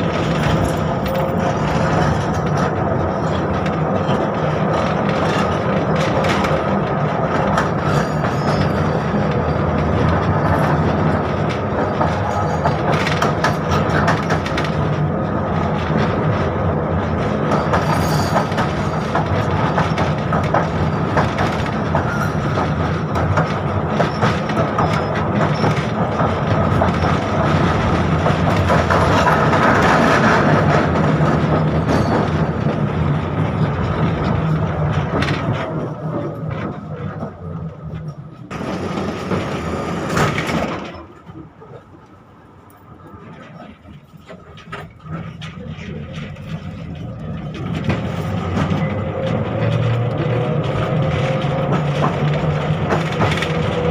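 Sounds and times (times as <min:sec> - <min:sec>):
wheels clattering over rails: 0:00.0 - 0:41.9, 0:42.9 - 0:53.9
tram rumbling on track: 0:00.0 - 0:53.9.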